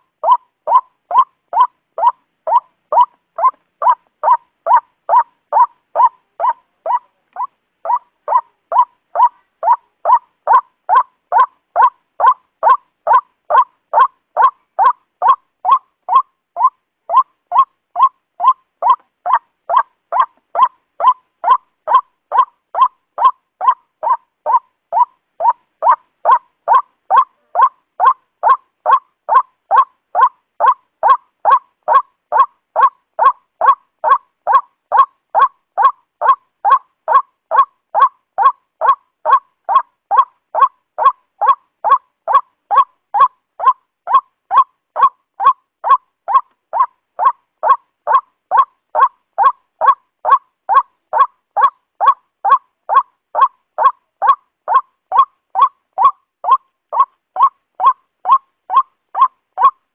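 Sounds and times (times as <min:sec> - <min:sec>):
waterhen calling: 0:00.0 - 0:59.8.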